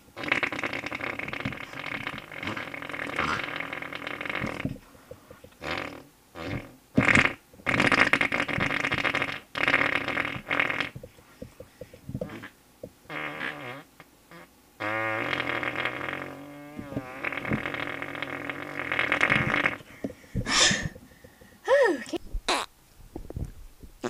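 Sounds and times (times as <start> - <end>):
fart noises: 0.2 - 21.0, 22.5 - 22.7.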